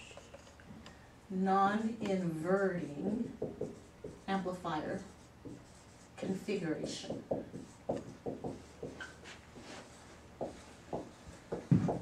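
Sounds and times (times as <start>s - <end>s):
marker writing on a whiteboard: 1.8s - 12.0s.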